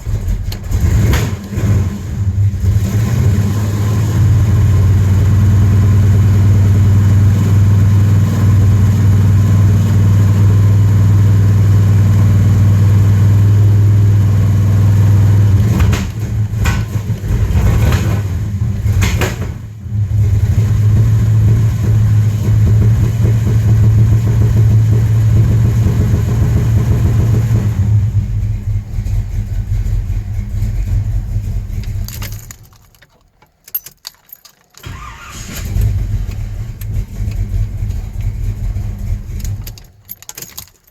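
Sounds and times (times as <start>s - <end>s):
car engine running: 0.0s - 33.0s, 34.8s - 40.9s.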